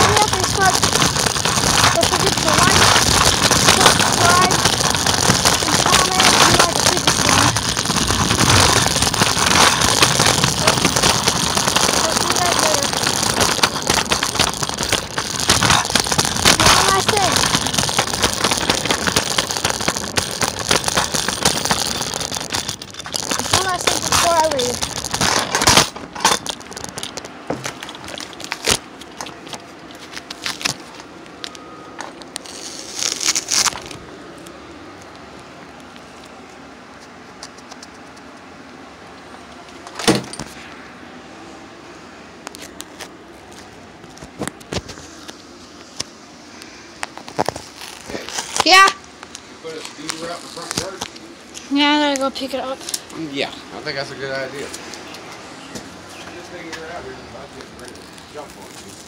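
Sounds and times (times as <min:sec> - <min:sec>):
scooter rolling on pavement: 0:00.0 - 0:40.7, 0:47.0 - 0:59.0
crackling: 0:00.0 - 0:40.9, 0:42.4 - 0:59.0.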